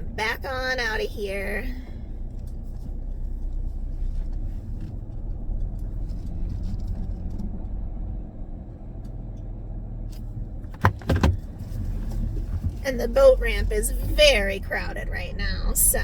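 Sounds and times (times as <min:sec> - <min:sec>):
van engine rumbling: 0:00.0 - 0:16.0.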